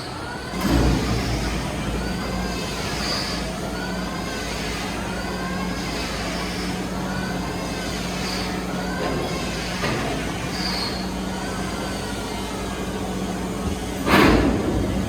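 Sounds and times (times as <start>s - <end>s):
faint machine squeals: 0.0s - 15.0s
sawmill machinery humming: 0.0s - 15.0s.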